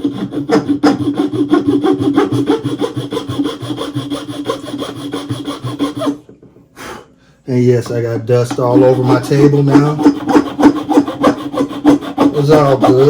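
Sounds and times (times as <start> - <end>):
hand file rasping on wood: 0.0 - 6.3, 8.4 - 13.0.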